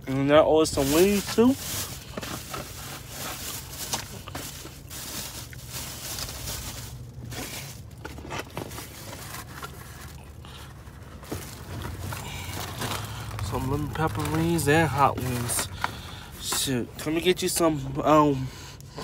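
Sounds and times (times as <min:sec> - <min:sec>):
paper and plastic bag rustling: 0:00.1 - 0:18.1.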